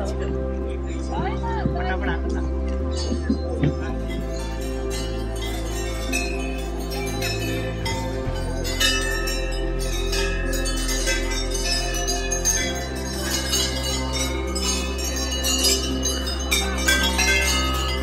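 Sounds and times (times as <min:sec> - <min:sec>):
background music with low notes: 0:00.0 - 0:18.0
small bells ringing: 0:02.4 - 0:18.0.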